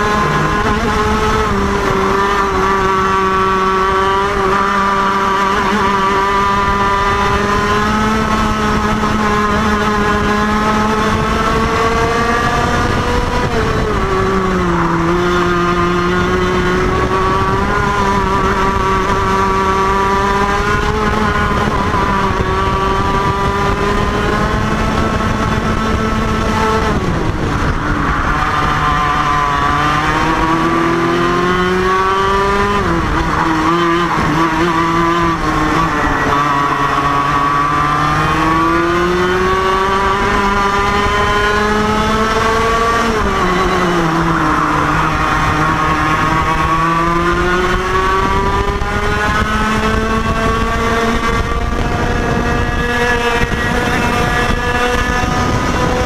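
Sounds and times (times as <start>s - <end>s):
kart engines racing: 0.0s - 56.0s.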